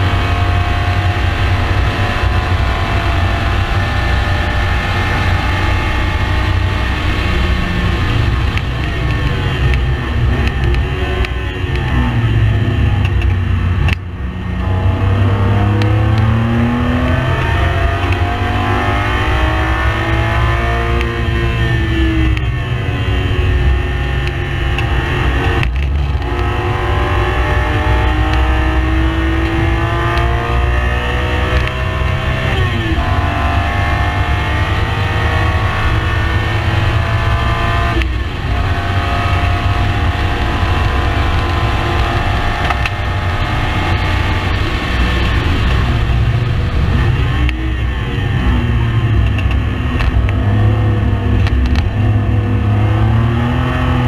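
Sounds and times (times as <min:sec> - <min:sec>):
race car engine running hard: 0:00.0 - 0:54.0
steady low rumble: 0:00.0 - 0:54.0.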